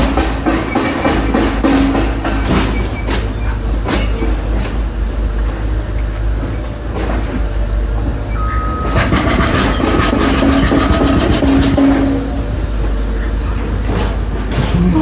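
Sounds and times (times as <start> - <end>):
machinery rumble: 0.0 - 15.0
steady whine: 0.0 - 15.0.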